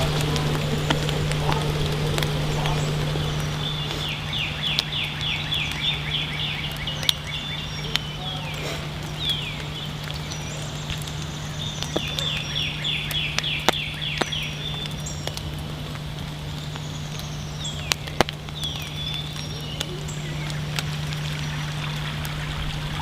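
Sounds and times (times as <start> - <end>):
bird calling: 0.0 - 15.4, 16.4 - 23.0
steady low hum: 0.0 - 23.0.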